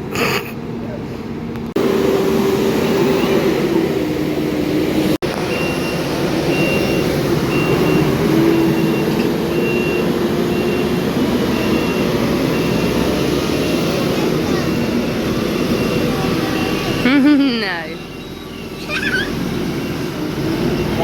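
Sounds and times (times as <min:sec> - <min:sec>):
diesel engine running: 0:00.0 - 0:21.0
reversing alarm beeping: 0:01.8 - 0:03.8, 0:05.2 - 0:21.0.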